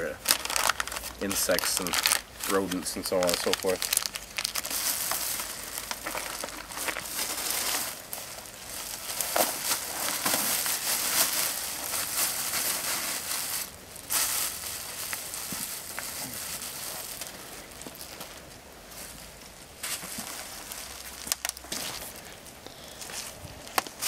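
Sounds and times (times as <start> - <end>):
foil insulation crinkling: 0.0 - 22.4.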